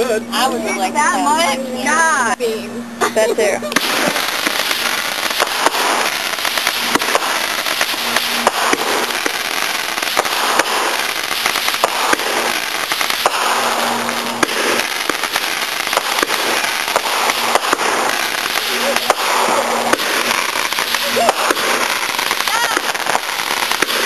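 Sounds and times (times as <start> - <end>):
fireworks crackling and popping: 3.6 - 24.0.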